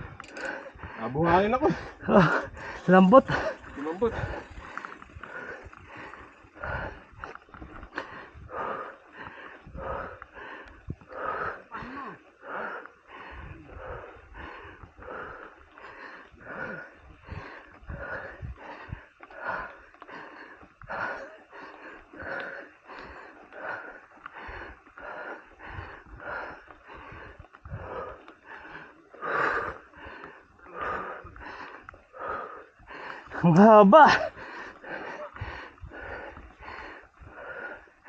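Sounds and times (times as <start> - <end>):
cyclist breathing hard: 0.0 - 38.0.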